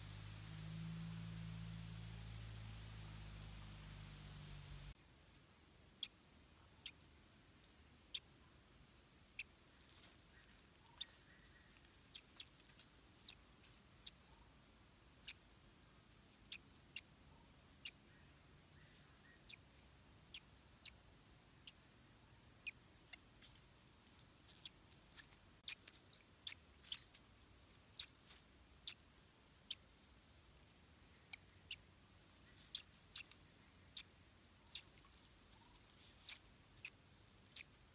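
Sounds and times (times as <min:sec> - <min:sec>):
faint high whine: 0:00.0 - 0:37.9.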